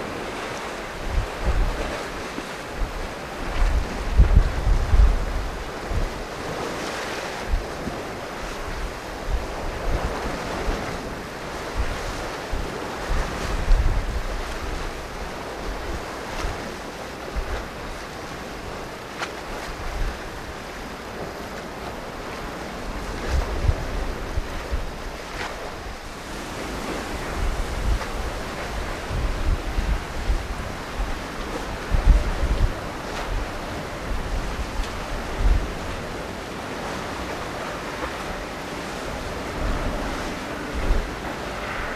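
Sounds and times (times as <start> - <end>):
waves washing onto rocky shore: 0.0 - 41.9
wind rumbling on microphone: 0.0 - 41.9.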